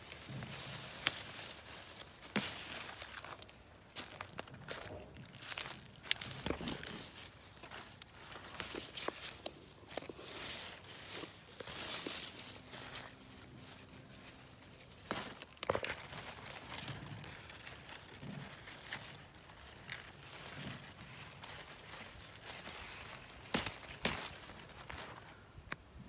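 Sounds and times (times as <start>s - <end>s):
leaves rustling against phone: 0.0s - 26.0s.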